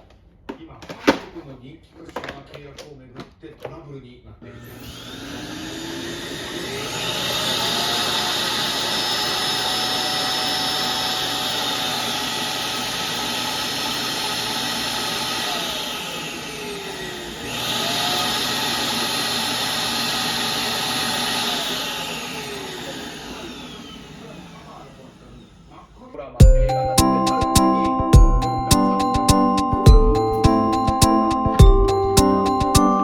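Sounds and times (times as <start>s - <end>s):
vacuum cleaner motor whining: 4.5s - 33.0s.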